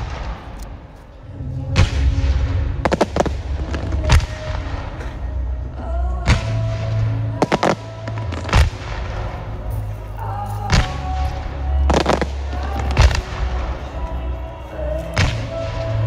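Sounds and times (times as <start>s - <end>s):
music playing: 0.0s - 16.0s
fireworks bursting: 1.7s - 5.2s, 6.2s - 16.0s.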